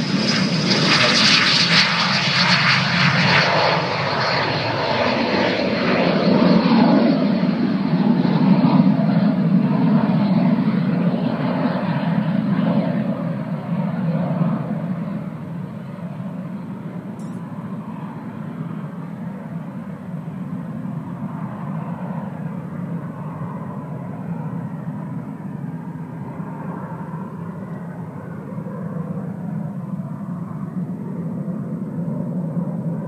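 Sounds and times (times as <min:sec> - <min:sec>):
distant jet engine: 0:00.0 - 0:33.0.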